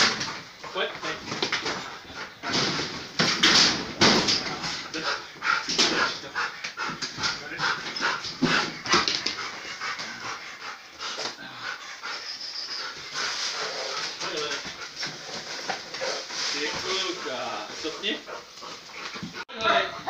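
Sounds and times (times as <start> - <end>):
dog panting and whimpering: 0.1 - 2.5, 4.6 - 20.0.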